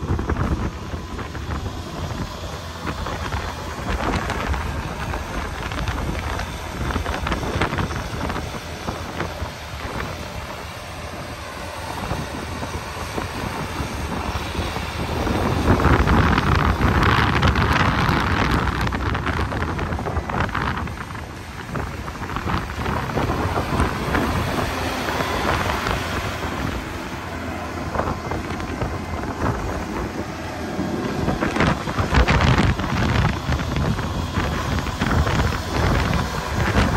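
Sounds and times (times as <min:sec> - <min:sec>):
blizzard wind buffeting microphone: 0:00.0 - 0:36.9.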